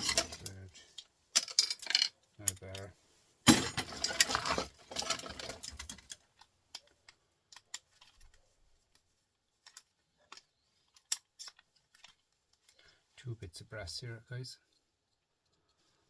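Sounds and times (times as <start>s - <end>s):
small parts clattering: 0.0s - 12.9s.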